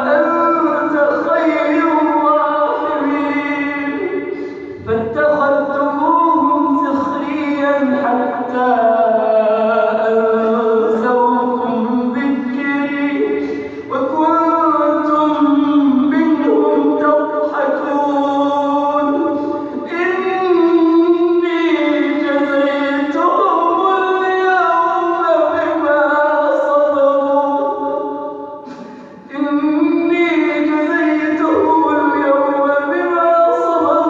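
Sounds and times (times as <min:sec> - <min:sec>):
man chanting melodically: 0:00.0 - 0:34.0.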